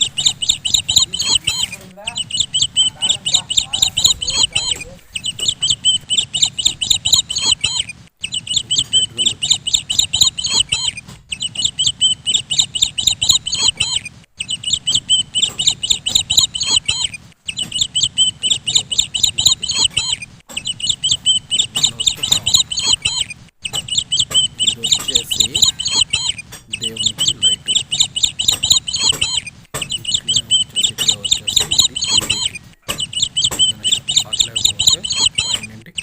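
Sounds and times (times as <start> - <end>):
rapid high-pitched bird chirping: 0.0 - 36.0.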